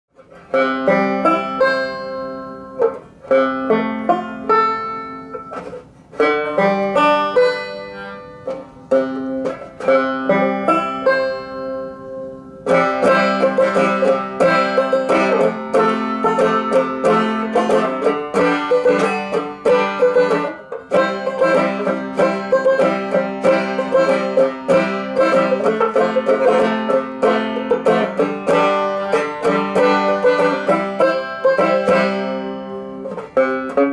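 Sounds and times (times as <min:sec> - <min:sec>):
banjo picking: 0:00.1 - 0:33.9.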